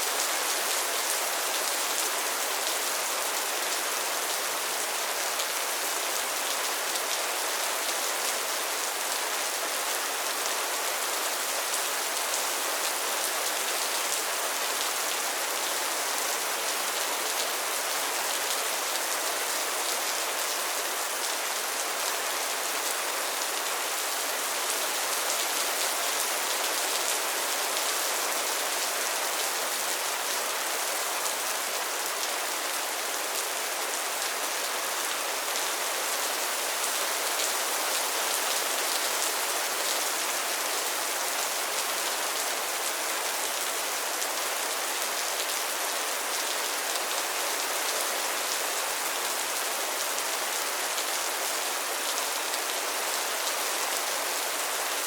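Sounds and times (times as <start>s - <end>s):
rain on pond and leaves: 0.0s - 55.0s.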